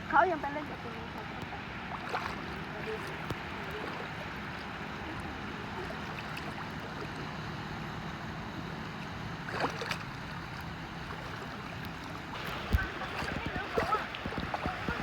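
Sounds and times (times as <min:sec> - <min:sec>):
sea water lapping: 0:00.0 - 0:15.0.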